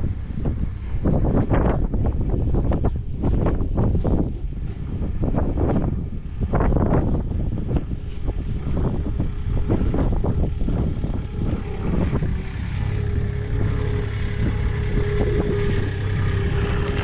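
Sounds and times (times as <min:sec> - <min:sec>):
farm loader engine running: 0:00.0 - 0:17.0
wind buffeting microphone: 0:00.0 - 0:17.0.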